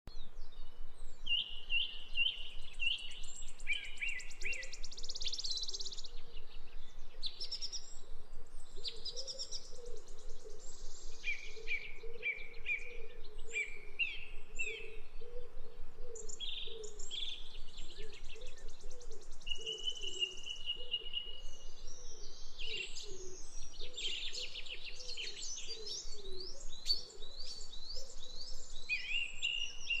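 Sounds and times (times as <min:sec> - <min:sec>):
songbirds singing and calling: 0:00.1 - 0:30.0.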